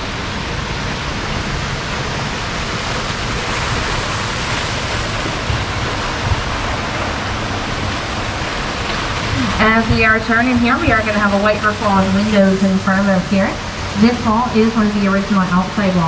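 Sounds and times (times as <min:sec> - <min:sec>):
fountain jet splashing into water: 0:00.0 - 0:16.0.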